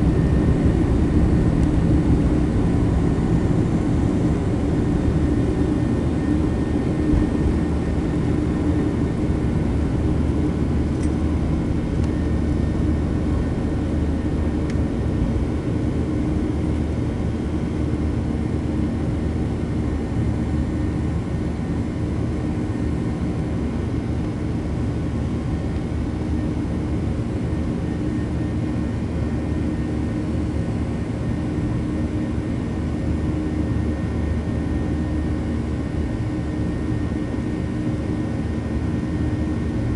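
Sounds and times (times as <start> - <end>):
jet engines and airflow in cabin: 0.0 - 39.9.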